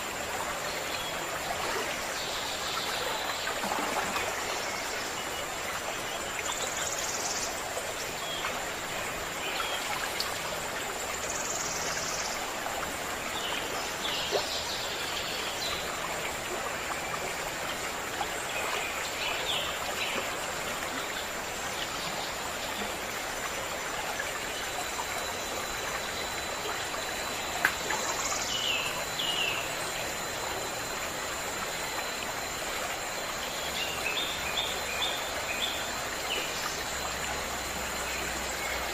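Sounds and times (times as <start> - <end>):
stream of water running: 0.0 - 38.9.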